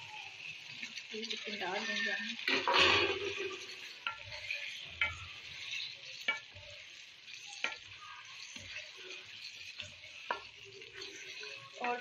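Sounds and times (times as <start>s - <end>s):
chicken sizzling in pan: 0.0s - 12.0s.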